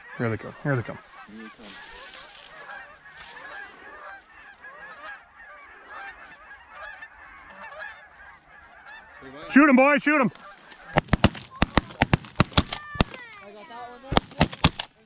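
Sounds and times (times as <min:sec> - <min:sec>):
geese honking: 0:00.0 - 0:14.7.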